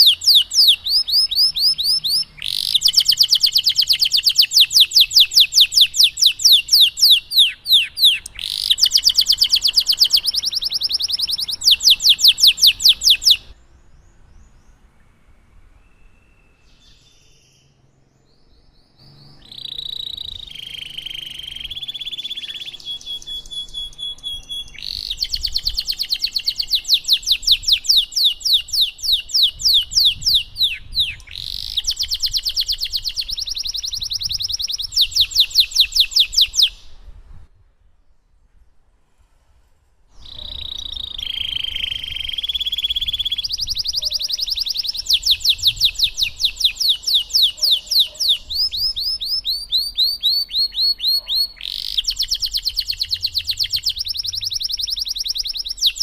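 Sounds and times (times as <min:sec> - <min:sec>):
canary singing trills: 0:00.0 - 0:15.2, 0:15.8 - 0:37.1, 0:40.2 - 0:56.0.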